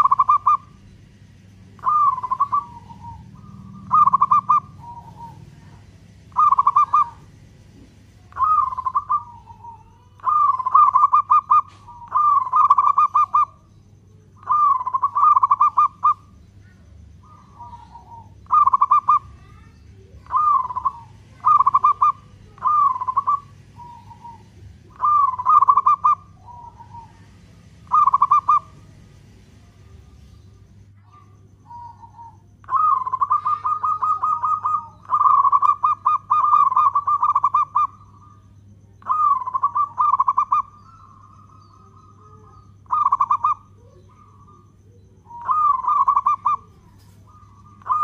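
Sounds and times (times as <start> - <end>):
dove cooing: 0.0 - 48.0.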